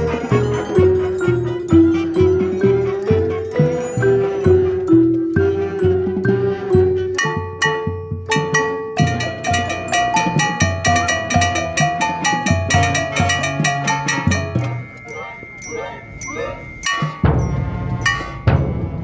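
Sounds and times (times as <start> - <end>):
drums: 0.0 - 19.0
marching band music: 0.0 - 19.0
marimba notes: 0.0 - 19.0.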